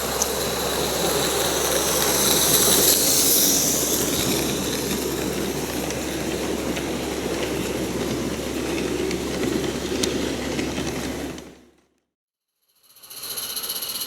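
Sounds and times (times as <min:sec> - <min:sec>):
steam locomotive rushing: 0:00.0 - 0:11.8
wheels on track: 0:00.0 - 0:12.0.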